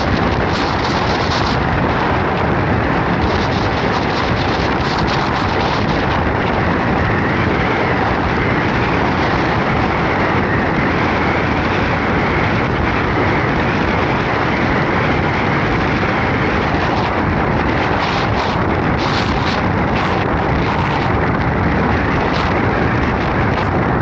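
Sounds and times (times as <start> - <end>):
high wind roaring: 0.0 - 24.0
wind buffeting microphone: 0.0 - 24.0.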